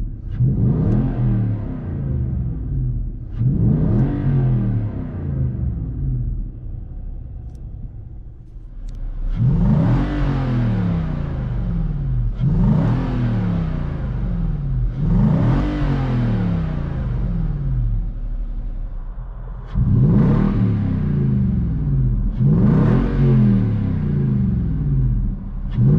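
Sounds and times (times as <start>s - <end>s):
truck engine idling and revving: 0.0s - 25.9s.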